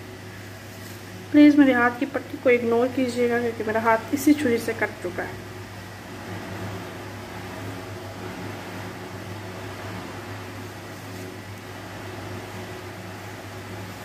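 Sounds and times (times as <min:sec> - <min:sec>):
electric appliance humming: 0:00.0 - 0:14.0
steady hiss: 0:00.0 - 0:14.0.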